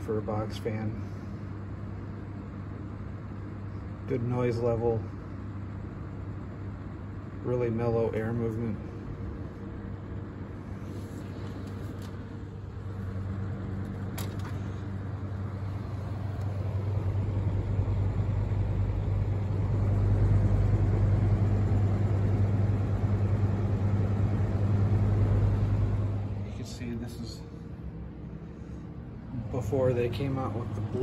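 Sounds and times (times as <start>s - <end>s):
box fan motor hum: 0.0s - 31.0s.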